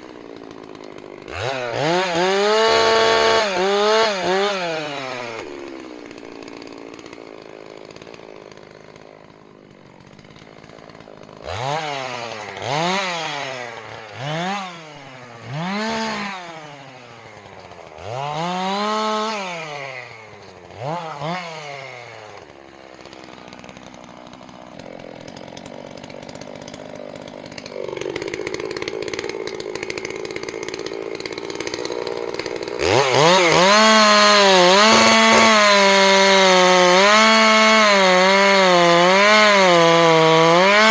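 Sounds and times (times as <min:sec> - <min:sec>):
chainsaw idling and revving: 0:00.0 - 0:40.9.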